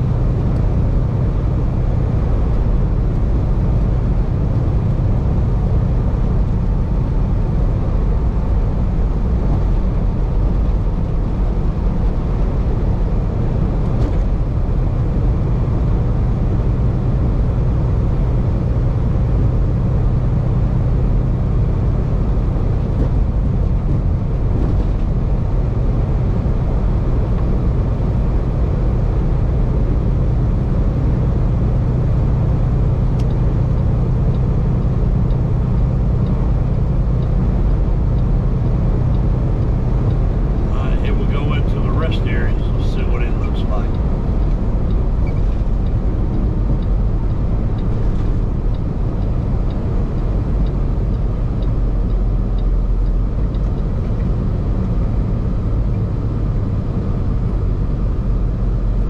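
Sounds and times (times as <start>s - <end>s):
low hum: 0.0s - 59.0s
truck engine drone: 0.0s - 59.0s
tyre road noise: 0.0s - 59.0s.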